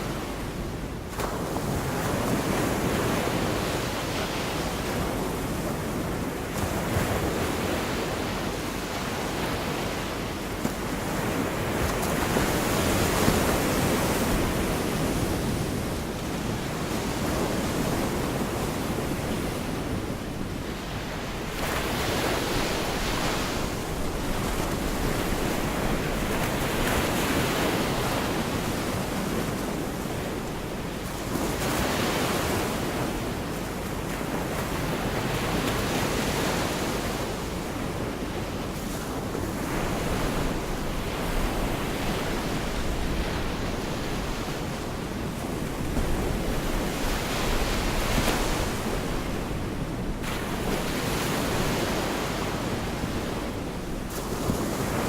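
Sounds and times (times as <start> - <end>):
waves breaking on beach: 0.0 - 55.0
wind rumble on microphone: 0.0 - 55.0.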